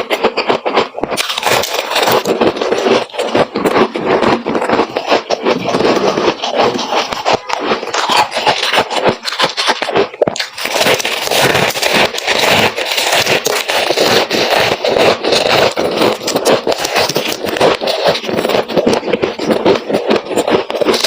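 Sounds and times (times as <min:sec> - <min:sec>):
freezer frost crunching and scraping: 0:00.0 - 0:21.0.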